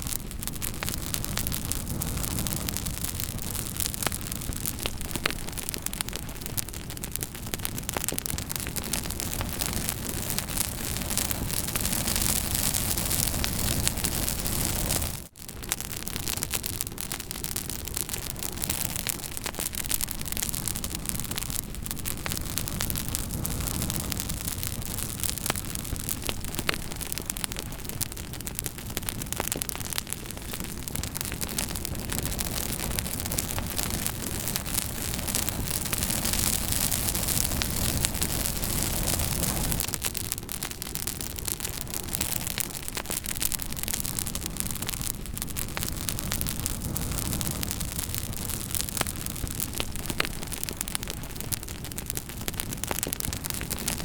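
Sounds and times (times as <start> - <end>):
campfire crackling and popping: 0.0 - 54.0
fire hissing: 0.0 - 54.0
low fire rumble: 0.0 - 54.0.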